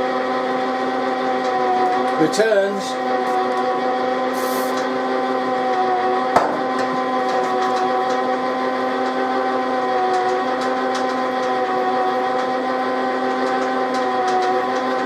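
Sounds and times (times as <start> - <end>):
metal lathe motor humming: 0.0 - 15.0.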